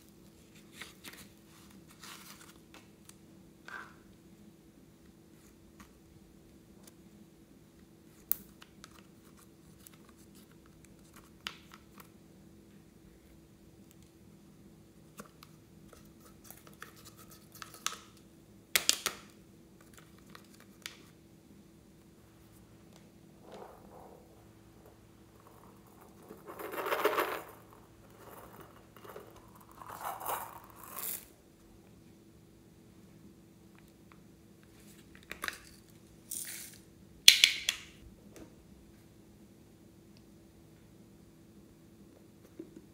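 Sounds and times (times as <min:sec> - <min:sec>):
low steady hum: 0:00.0 - 0:37.3.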